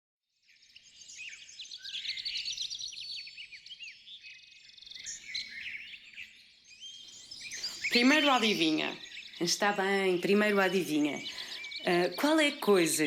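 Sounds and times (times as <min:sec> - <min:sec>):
small birds chirping: 0:00.3 - 0:13.0
bird trill: 0:00.4 - 0:13.0.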